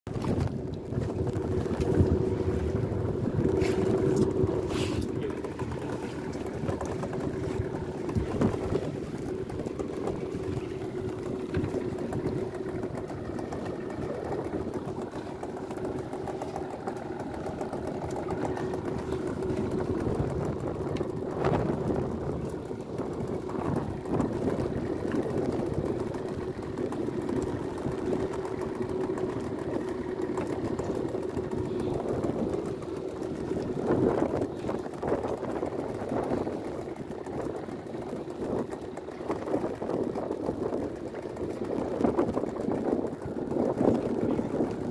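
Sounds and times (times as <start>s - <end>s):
boat engine humming: 0.1s - 44.9s.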